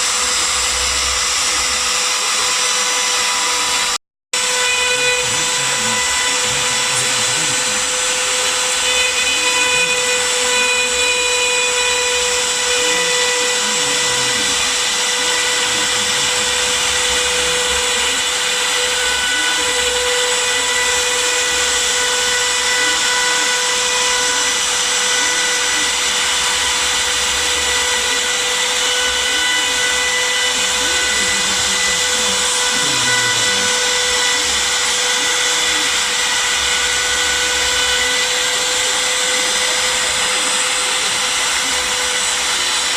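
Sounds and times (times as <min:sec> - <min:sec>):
cnc machine high whine: 0:00.0 - 0:42.9.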